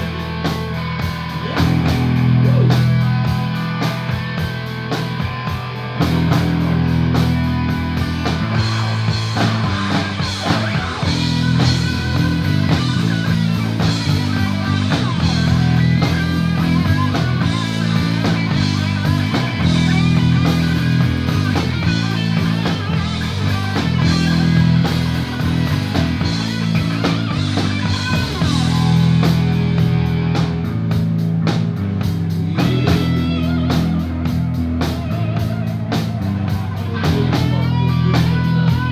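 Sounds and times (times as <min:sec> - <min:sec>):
rock band playing instrumental: 0:00.0 - 0:38.9.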